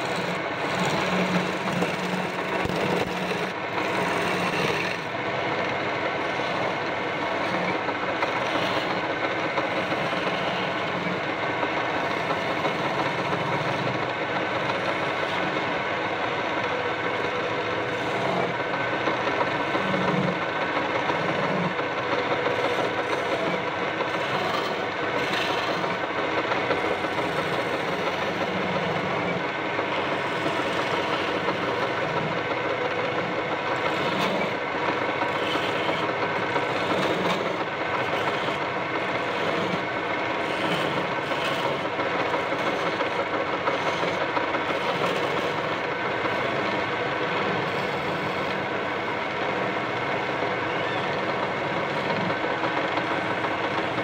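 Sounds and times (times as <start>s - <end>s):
chisel scraping spinning wood: 0.0s - 54.0s
lathe motor hum: 0.0s - 54.0s.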